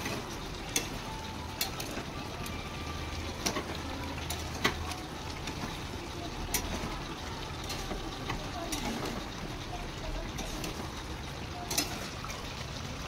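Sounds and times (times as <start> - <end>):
curry cooking: 0.0 - 13.0.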